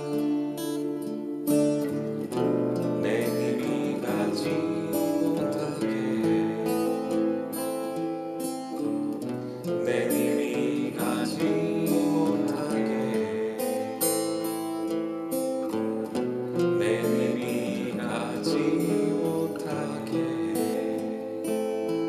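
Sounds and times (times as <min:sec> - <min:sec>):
acoustic guitar solo: 0:00.0 - 0:22.0.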